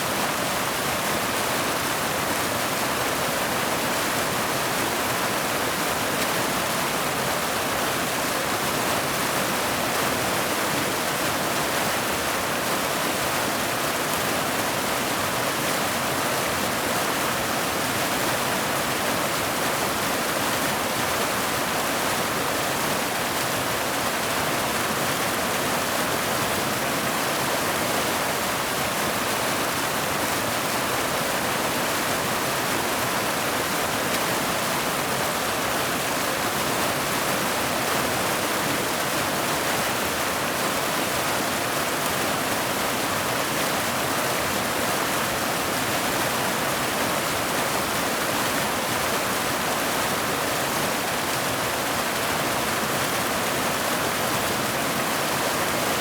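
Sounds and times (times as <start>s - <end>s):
waterfall rushing over boulders: 0.0s - 56.0s.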